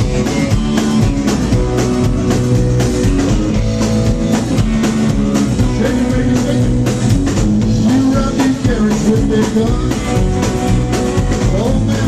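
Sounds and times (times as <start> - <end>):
drum kit steady beat: 0.0 - 12.0
electric guitar: 0.0 - 12.0.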